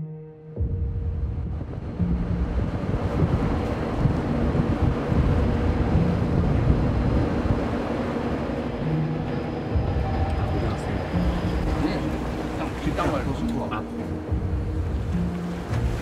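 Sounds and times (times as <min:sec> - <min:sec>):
boat engine rumble: 0:00.6 - 0:16.0
water: 0:00.6 - 0:16.0
wind buffeting microphone: 0:00.6 - 0:16.0.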